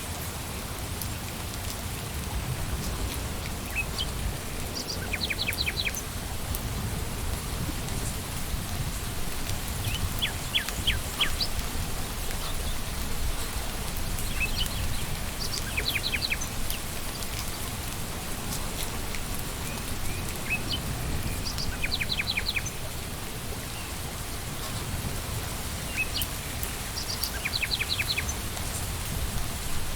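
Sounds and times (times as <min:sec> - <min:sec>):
rain falling on leaves: 0:00.0 - 0:29.9.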